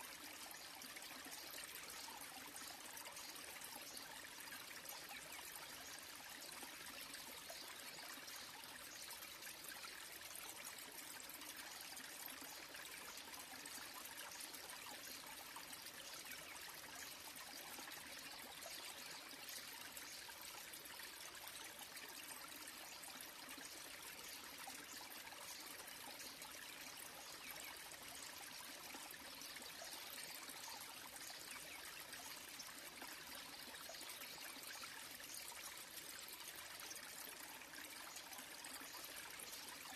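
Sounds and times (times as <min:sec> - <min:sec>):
small waterfall splashing on rocks: 0:00.0 - 0:39.9.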